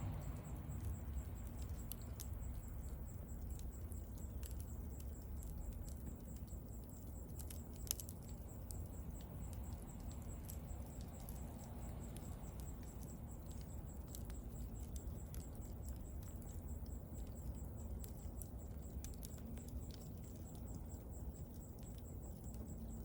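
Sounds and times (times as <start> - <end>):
bonfire crackling and popping: 0.0 - 23.0
low rush of fire: 0.0 - 23.0.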